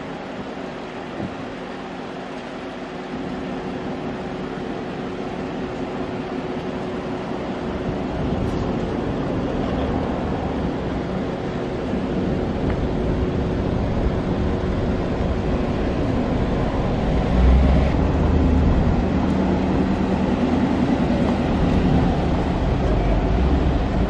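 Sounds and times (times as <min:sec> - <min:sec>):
car engine rumbling: 0:02.9 - 0:24.0.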